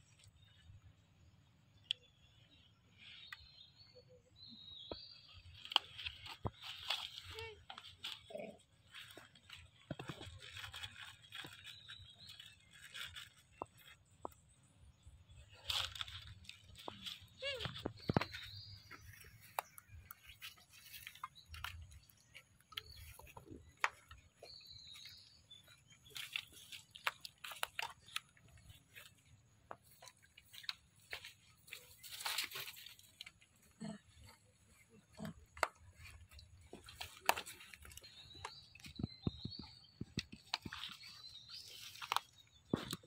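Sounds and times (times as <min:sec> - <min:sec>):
crackles and rustles: 0:04.8 - 0:43.0.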